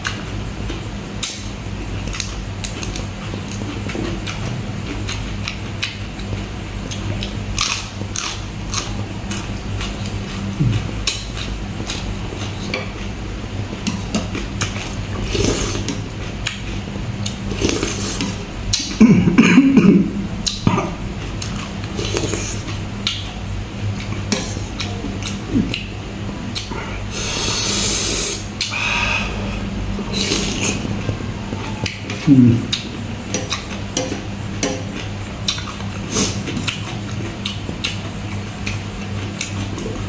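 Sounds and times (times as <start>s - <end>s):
chewing and mouth noises: 1.2s - 19.0s, 20.4s - 28.9s, 30.0s - 40.0s.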